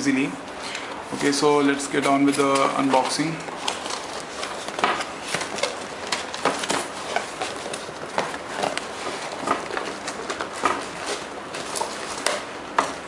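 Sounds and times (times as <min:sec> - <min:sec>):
packaging being opened by hand: 0:02.0 - 0:13.0.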